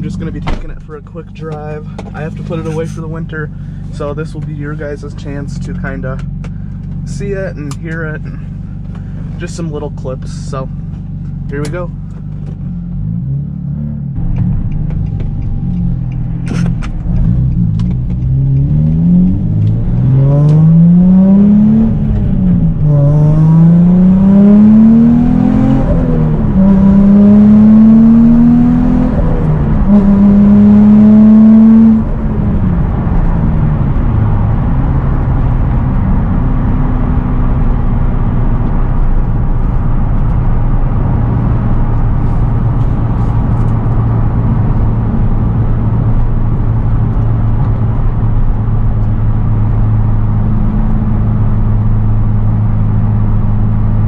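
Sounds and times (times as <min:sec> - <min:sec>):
car engine accelerating through gears: 0:10.2 - 0:54.0.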